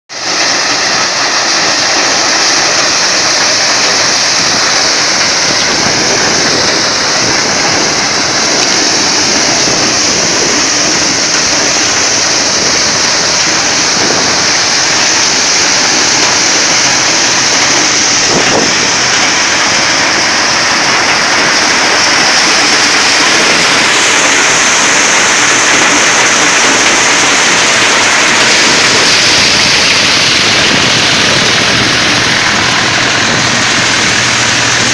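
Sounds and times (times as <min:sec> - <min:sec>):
thresher rushing noise: 0:00.1 - 0:34.9
tractor engine: 0:00.1 - 0:34.9.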